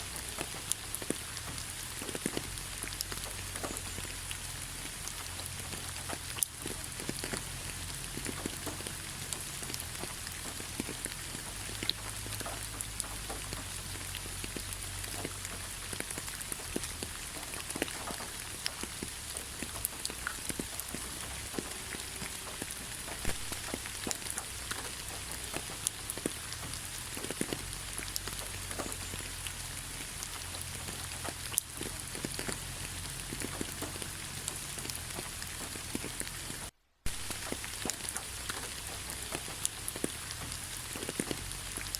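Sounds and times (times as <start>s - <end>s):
raindrops ticking close by: 0.0s - 41.9s
steady rain: 0.0s - 41.9s.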